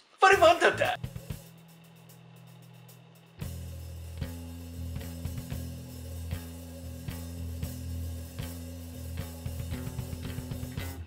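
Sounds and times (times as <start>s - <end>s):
music with low bass notes: 1.0s - 11.0s.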